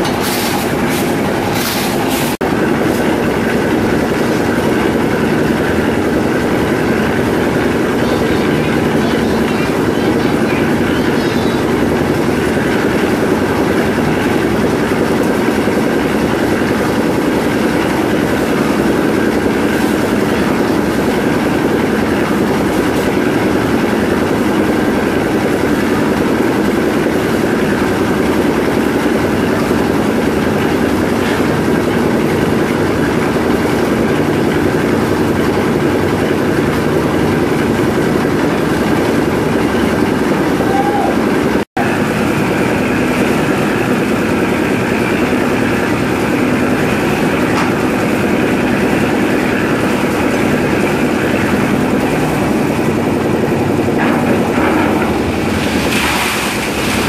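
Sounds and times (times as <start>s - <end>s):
concrete mixer rattling: 0.0s - 57.0s.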